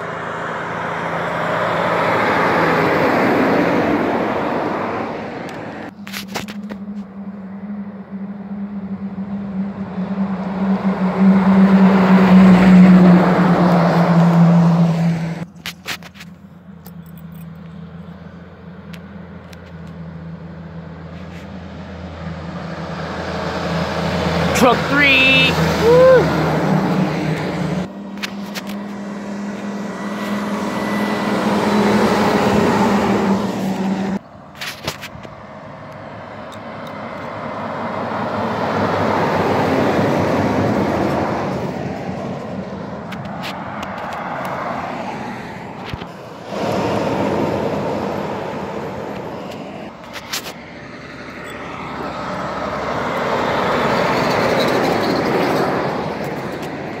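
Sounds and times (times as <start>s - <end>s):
truck diesel engine passing: 0.0s - 15.5s, 16.2s - 57.0s
vehicles passing: 0.0s - 57.0s.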